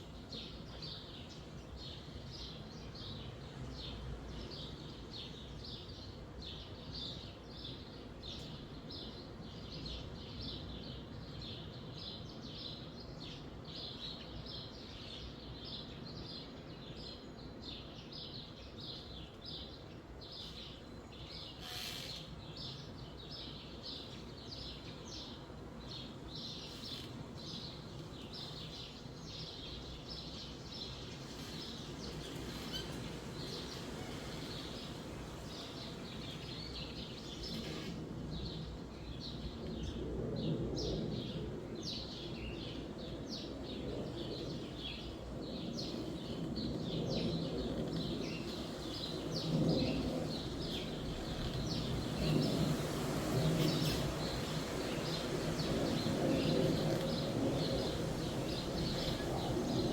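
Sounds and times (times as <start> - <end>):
wind in the trees: 0.0 - 59.9
small birds chirping: 0.1 - 41.1, 41.8 - 59.9.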